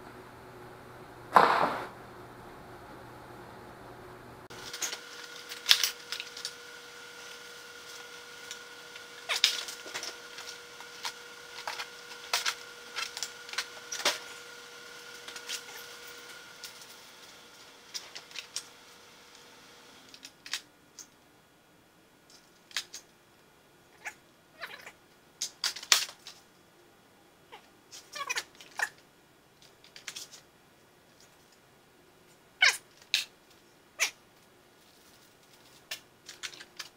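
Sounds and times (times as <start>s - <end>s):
faint steady whine: 0.0s - 36.9s.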